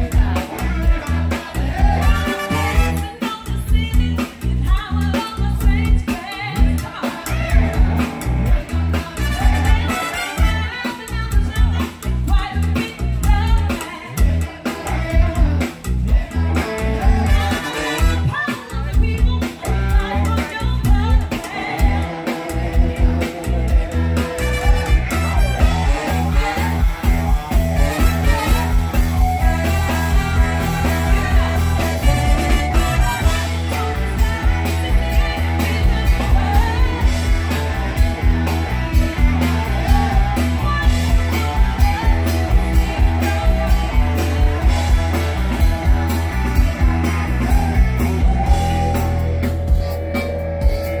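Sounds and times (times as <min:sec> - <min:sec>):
drum beat: 0:00.0 - 0:51.0
live rock band playing: 0:00.0 - 0:51.0
person singing: 0:00.0 - 0:51.0.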